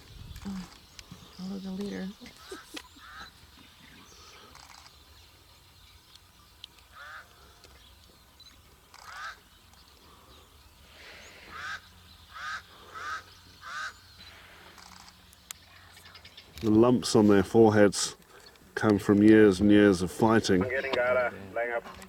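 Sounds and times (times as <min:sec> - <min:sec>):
bird calling: 0:00.0 - 0:16.8, 0:19.4 - 0:22.0.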